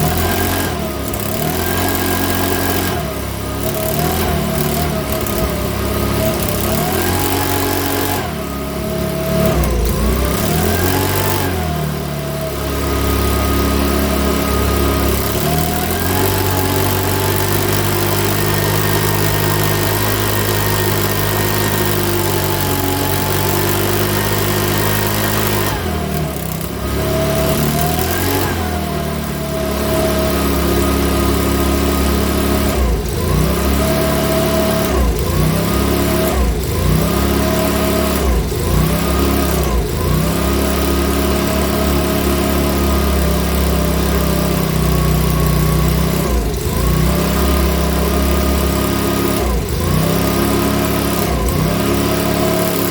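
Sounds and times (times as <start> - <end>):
leaf blower engine running unevenly: 0.0 - 52.9.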